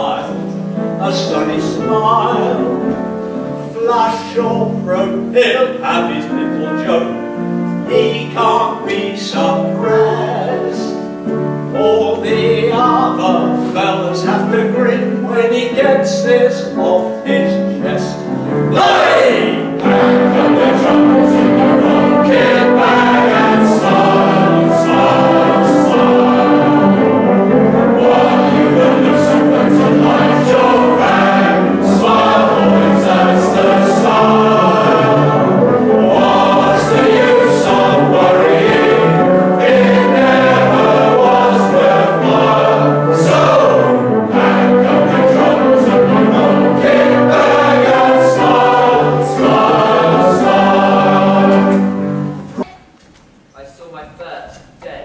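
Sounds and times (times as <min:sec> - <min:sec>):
choir singing: 0:00.0 - 0:07.1, 0:07.8 - 0:52.7
instrumental accompaniment: 0:00.0 - 0:53.5.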